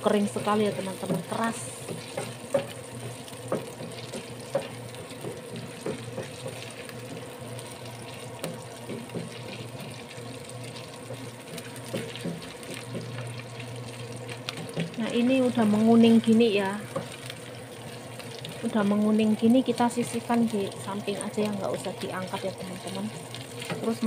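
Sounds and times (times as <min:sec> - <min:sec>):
cooker hood fan humming: 0:00.0 - 0:24.0
meat sizzling in a pan: 0:00.0 - 0:24.0
wooden spatula tapping and scraping: 0:00.2 - 0:20.4, 0:23.5 - 0:24.0.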